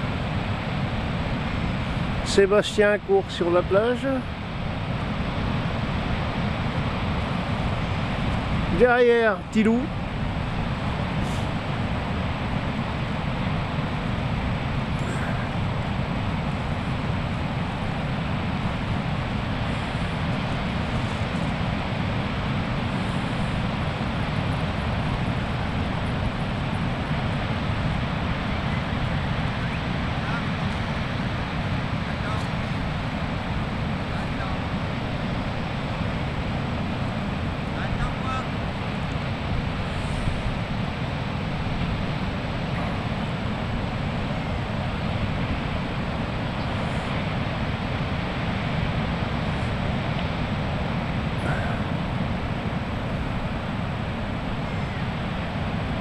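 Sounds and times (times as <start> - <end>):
breaking surf: 0.0 - 56.0
wind buffeting microphone: 0.0 - 56.0.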